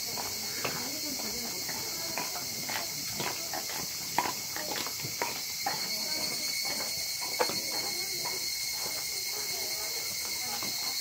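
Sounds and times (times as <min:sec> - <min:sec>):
faint voices: 0:00.0 - 0:11.0
high-pitched insect drone: 0:00.0 - 0:11.0
sharp footsteps: 0:00.0 - 0:11.0.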